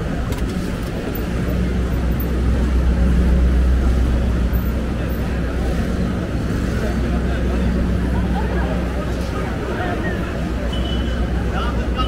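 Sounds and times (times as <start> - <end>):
street noise: 0.0 - 12.0
vehicle engine droning: 0.0 - 12.0.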